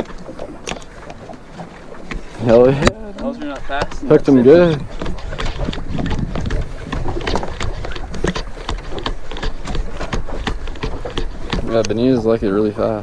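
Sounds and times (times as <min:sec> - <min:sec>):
knocks and taps on a boat: 0:00.0 - 0:13.0
low rumble of wind and water: 0:00.0 - 0:13.0.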